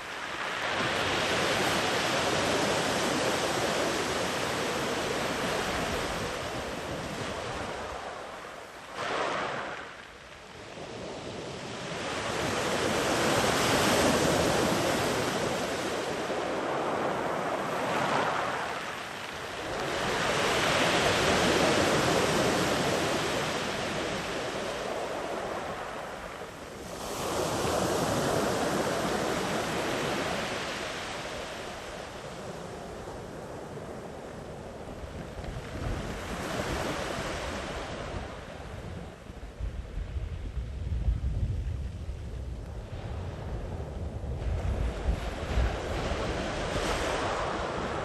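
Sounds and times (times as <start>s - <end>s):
sea waves breaking on shore: 0.0s - 39.2s, 44.4s - 48.0s.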